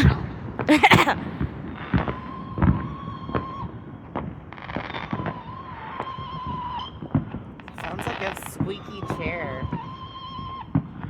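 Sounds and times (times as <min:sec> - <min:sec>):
firework bangs: 0:00.0 - 0:11.0
firework squeaky whistle: 0:01.6 - 0:11.0.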